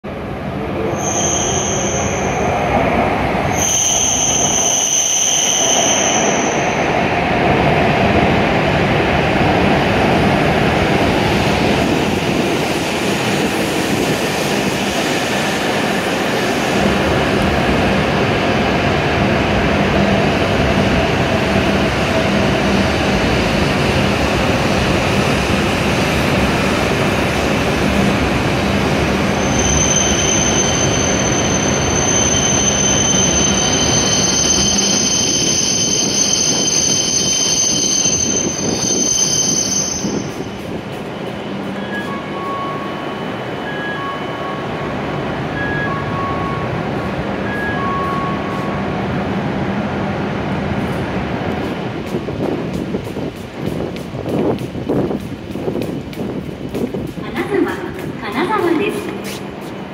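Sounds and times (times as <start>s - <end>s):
train pulling in and stopping: 0.1s - 59.9s.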